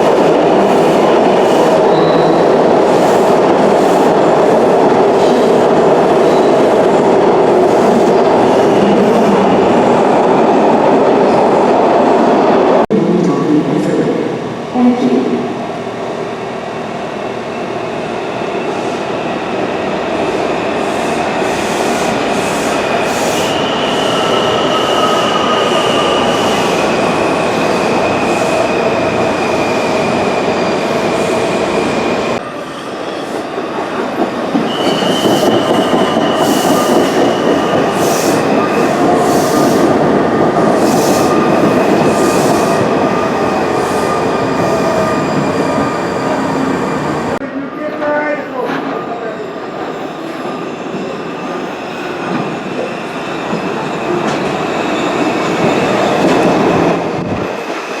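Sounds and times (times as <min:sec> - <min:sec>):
train wheels rumbling on rail: 0:00.0 - 0:12.8, 0:17.3 - 0:58.0.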